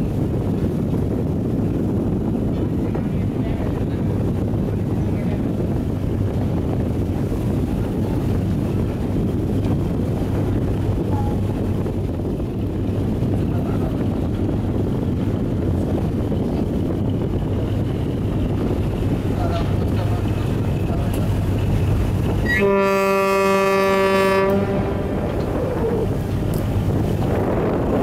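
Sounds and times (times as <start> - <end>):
boat diesel engine droning: 0.0 - 28.0
wind buffeting microphone: 0.0 - 28.0.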